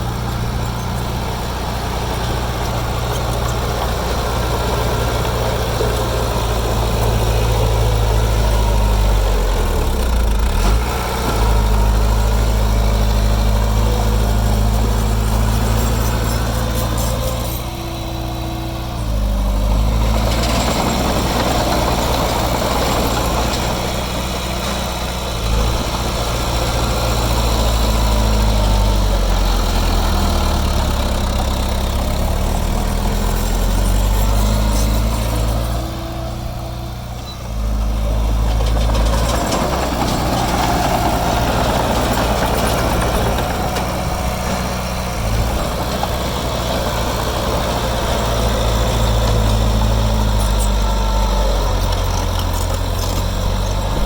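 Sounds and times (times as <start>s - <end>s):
heavy diesel engine working: 0.0s - 54.0s.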